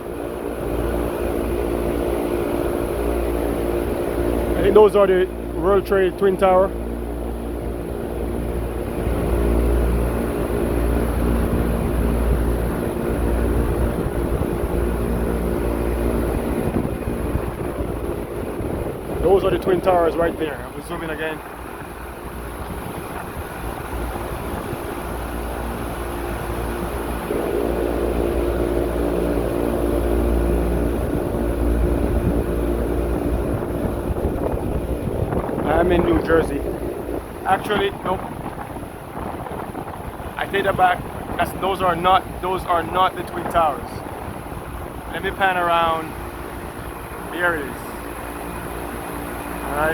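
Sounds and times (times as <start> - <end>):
air conditioning unit humming: 0.0 - 49.9
wind rumble on microphone: 0.0 - 49.9.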